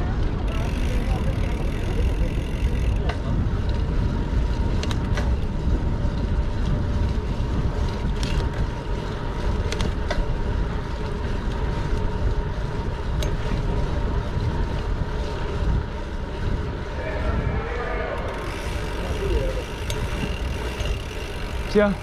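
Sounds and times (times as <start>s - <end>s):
low street rumble: 0.0s - 22.0s
wind noise on microphone: 0.0s - 22.0s.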